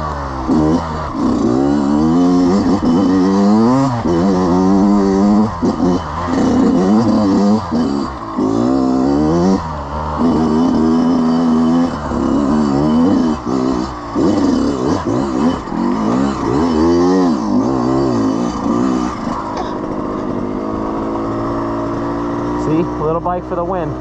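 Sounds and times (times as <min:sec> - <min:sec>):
two-stroke dirt bike engine revving: 0:00.0 - 0:24.0.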